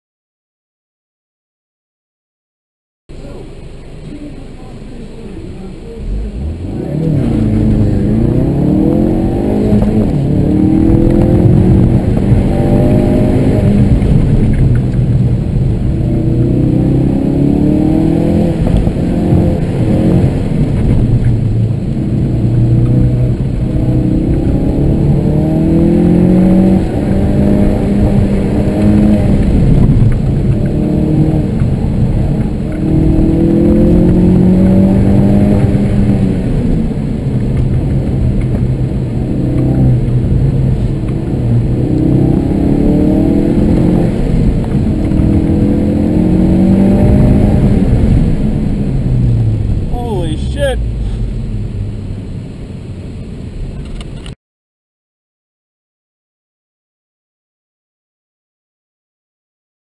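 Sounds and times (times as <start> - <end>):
car engine accelerating: 3.1 - 54.3.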